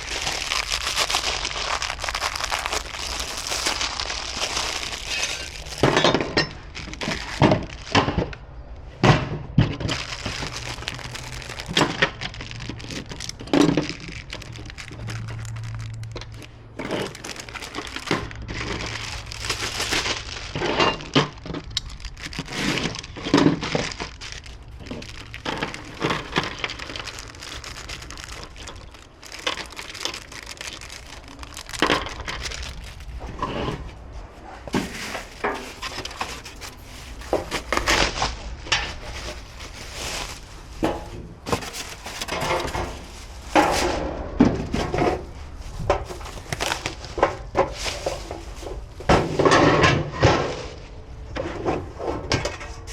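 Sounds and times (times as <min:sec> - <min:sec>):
packing material crinkling: 0:00.0 - 0:08.4, 0:09.7 - 0:49.7.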